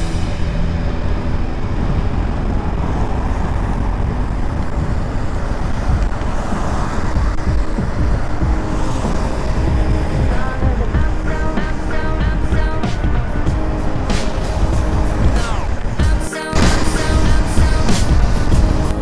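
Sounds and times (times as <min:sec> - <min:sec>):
motorcycle engine and road noise: 0:00.0 - 0:19.0
wind on microphone: 0:00.0 - 0:19.0.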